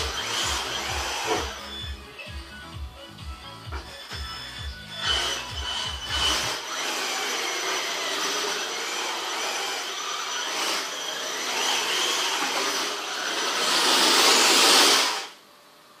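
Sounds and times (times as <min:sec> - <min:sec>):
rc car motor and gears whining: 0:00.0 - 0:02.0, 0:03.8 - 0:15.4.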